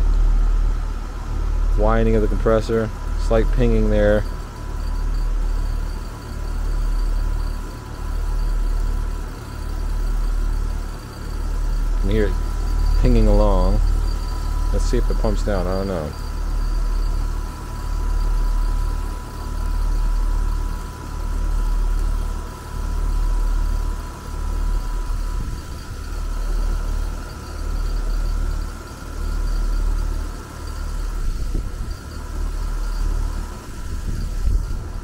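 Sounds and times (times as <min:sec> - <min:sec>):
air conditioner unit hum: 0:00.0 - 0:35.0
slight whine: 0:00.0 - 0:35.0.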